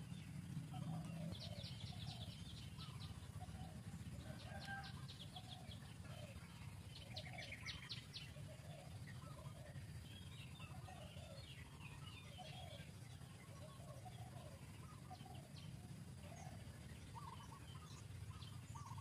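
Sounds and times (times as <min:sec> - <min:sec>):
soft bird calls: 0:00.0 - 0:19.0.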